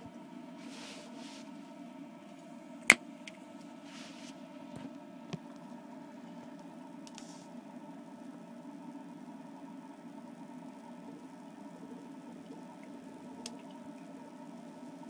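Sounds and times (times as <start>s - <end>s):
torch running with low hum: 0.0s - 15.0s.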